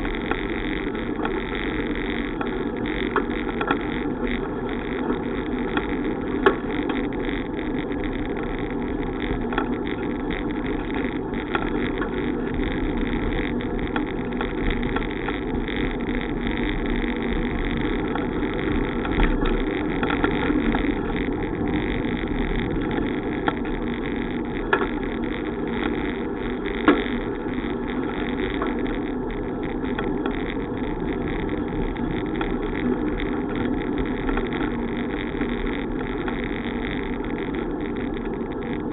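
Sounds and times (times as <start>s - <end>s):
bicycle tyre noise on road: 0.0s - 38.9s
sharp clicks from bumps: 0.0s - 38.9s.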